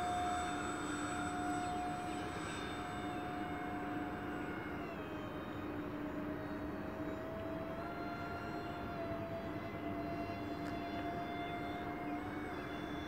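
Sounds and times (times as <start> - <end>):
electric fans whining: 0.0 - 13.0.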